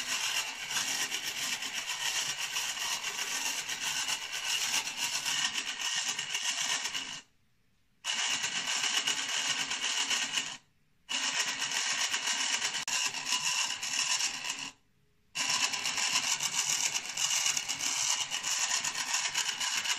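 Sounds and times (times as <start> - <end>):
small toy motor whirring: 0.0 - 7.3, 8.0 - 14.8, 15.4 - 19.9.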